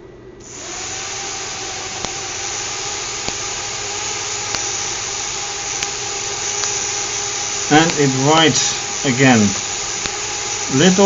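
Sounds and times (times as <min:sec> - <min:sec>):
small electric motor whining: 0:00.4 - 0:11.0
rushing mechanical noise: 0:00.5 - 0:11.0.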